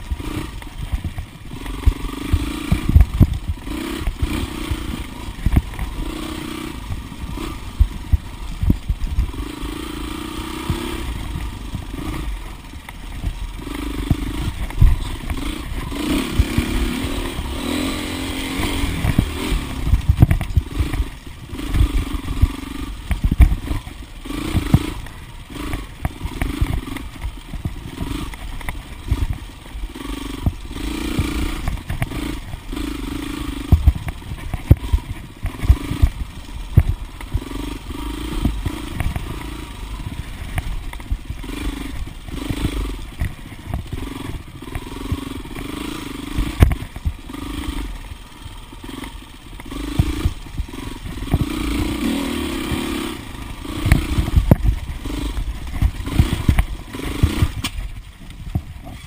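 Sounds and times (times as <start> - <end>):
knocks and clatter from bike: 0.0 - 59.0
motorcycle engine revving: 0.0 - 59.0.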